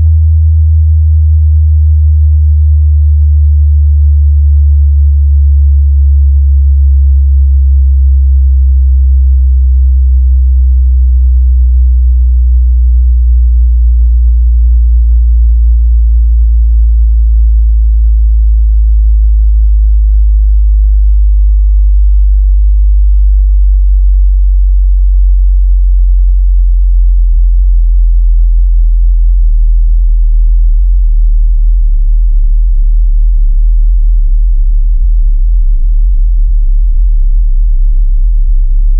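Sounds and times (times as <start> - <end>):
deep electronic sine drone: 0.0 - 38.9.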